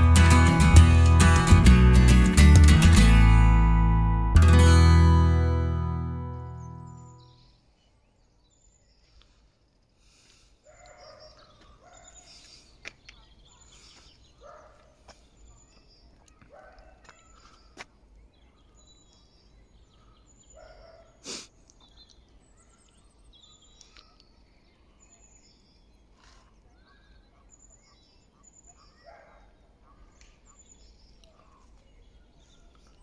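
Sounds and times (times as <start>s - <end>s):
birds chirping: 6.0s - 33.0s.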